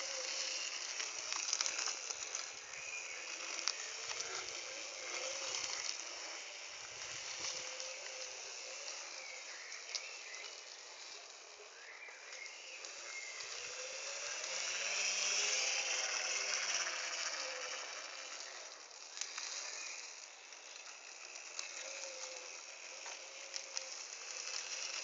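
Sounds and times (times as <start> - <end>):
outdoor hiss: 0.0 - 25.0
passing vehicle hum: 0.0 - 25.0.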